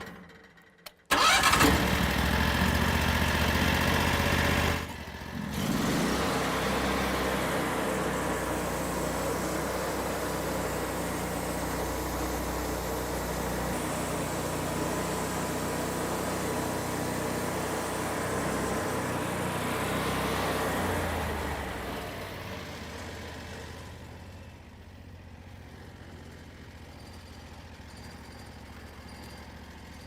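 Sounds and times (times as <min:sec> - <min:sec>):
sawmill engine running: 0:01.1 - 0:30.0.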